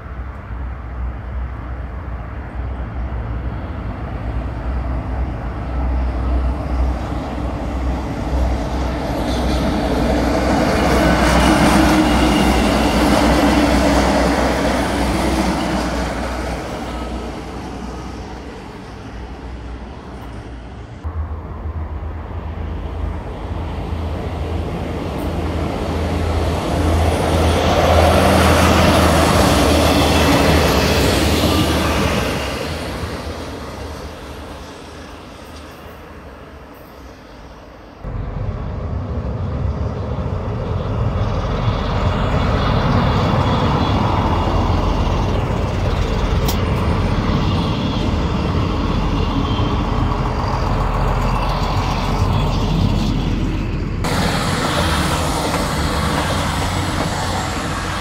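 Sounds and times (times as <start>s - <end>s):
diesel railcar engine drone: 0.0s - 58.0s
rail and wheel noise: 0.0s - 58.0s.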